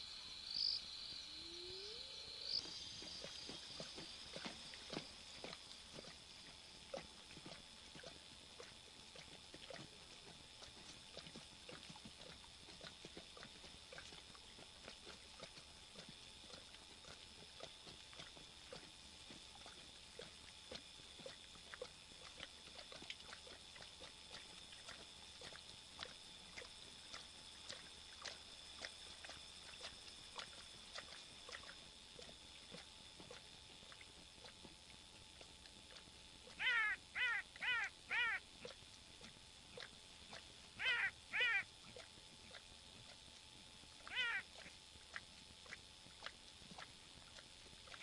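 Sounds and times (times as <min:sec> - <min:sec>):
insects trilling: 0:00.0 - 0:43.2, 0:43.8 - 0:48.0.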